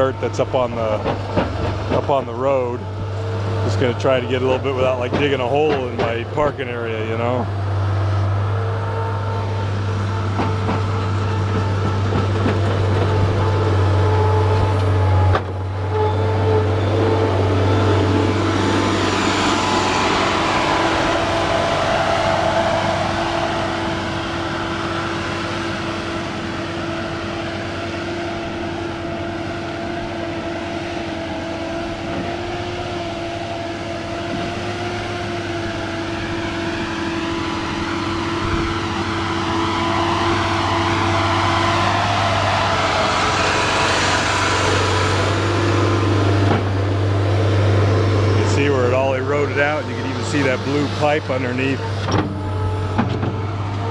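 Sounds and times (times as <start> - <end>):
skid loader engine running: 0.0 - 53.9.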